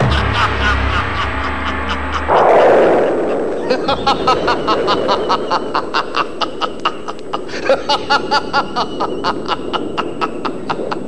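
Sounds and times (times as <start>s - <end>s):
man laughing loudly: 0.0s - 11.0s.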